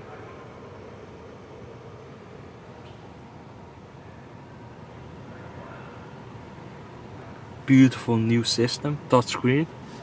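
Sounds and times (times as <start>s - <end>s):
car cabin hum and hiss: 0.0s - 10.0s.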